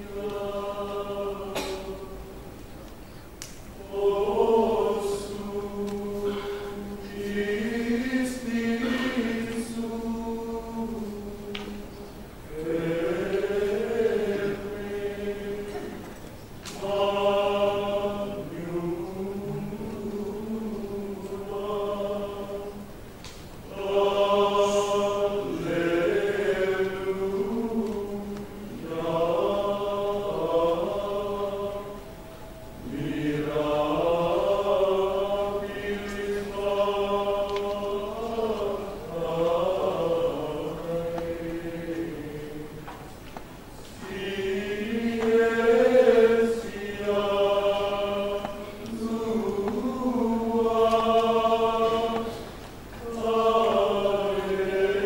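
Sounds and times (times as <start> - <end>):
men's choir chanting: 0.0 - 2.3, 3.8 - 23.0, 23.7 - 43.0, 43.8 - 55.0.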